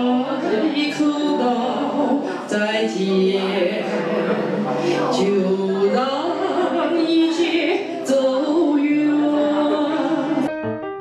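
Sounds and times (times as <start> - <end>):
woman singing karaoke: 0.0 - 10.5
instrumental music: 0.0 - 11.0.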